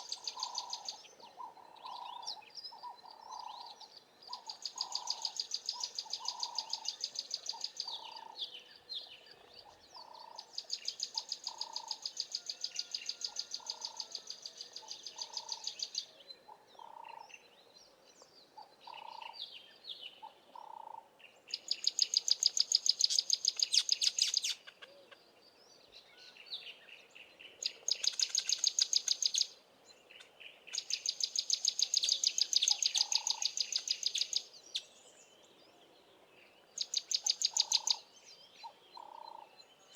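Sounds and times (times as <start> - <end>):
bird chirps: 0.0 - 17.5, 18.2 - 25.1, 26.0 - 35.8, 36.4 - 39.9.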